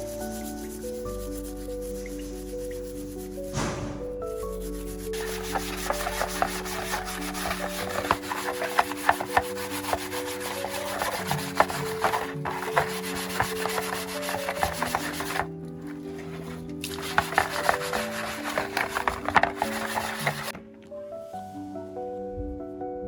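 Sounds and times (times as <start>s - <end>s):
scraping and rubbing strokes: 0.0s - 20.6s
background music with held notes: 0.0s - 23.0s.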